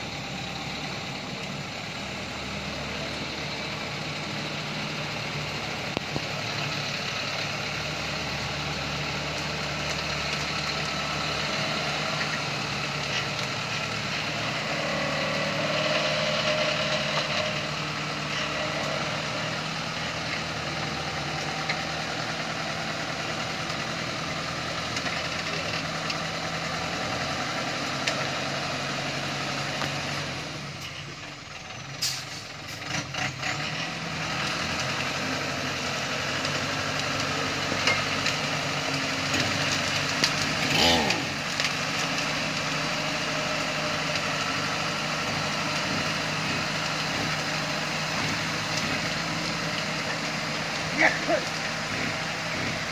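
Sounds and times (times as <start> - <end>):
truck diesel engine under load: 0.0 - 52.9.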